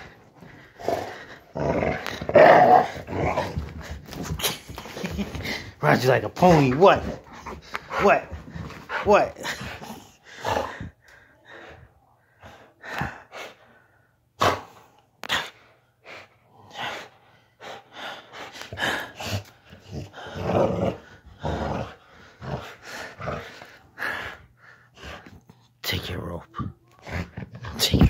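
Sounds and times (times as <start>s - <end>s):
dog growling and breathing hard: 0.0s - 13.6s, 14.4s - 25.8s, 26.4s - 28.0s.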